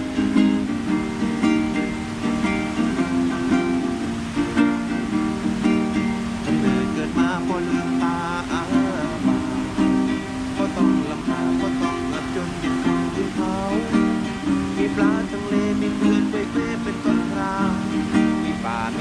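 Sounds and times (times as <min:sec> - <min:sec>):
plucked acoustic string instrument: 0:00.0 - 0:19.0
wavering higher melody line: 0:00.0 - 0:19.0.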